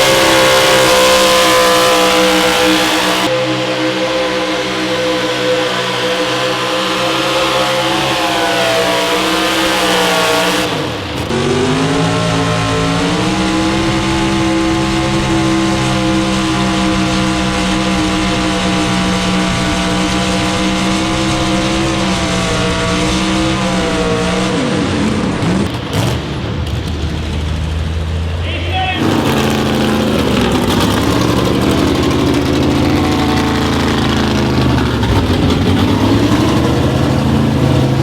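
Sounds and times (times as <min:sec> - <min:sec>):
vehicle engine revving under load: 0:00.0 - 0:28.4, 0:29.0 - 0:38.0.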